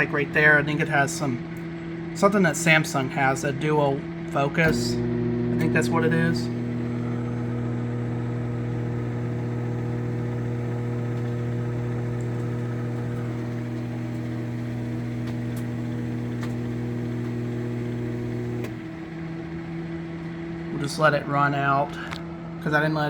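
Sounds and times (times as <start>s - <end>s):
microwave oven humming: 0.0s - 23.0s.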